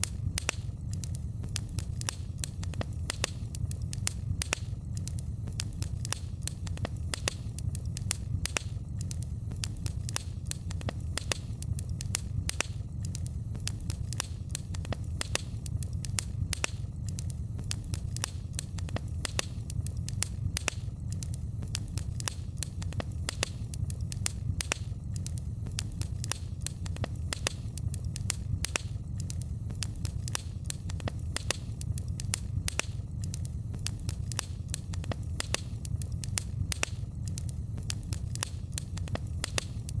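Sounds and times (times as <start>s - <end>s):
fire low rumble: 0.0s - 40.0s
wood fire crackling and popping: 0.0s - 40.0s.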